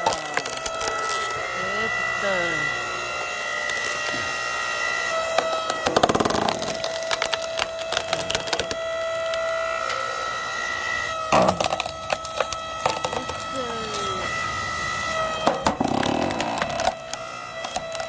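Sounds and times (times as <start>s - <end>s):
wood cracking and splintering: 0.0s - 2.0s, 2.6s - 10.4s, 11.1s - 14.4s, 15.0s - 18.0s
log splitter machine whine: 0.0s - 18.0s.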